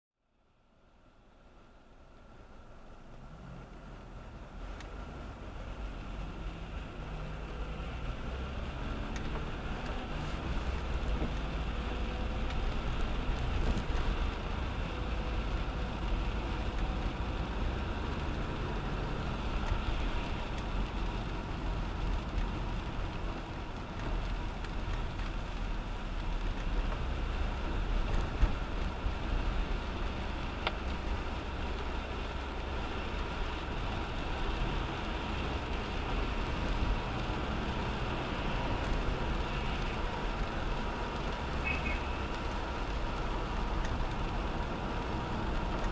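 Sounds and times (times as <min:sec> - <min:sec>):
car road noise: 0:00.2 - 0:45.9.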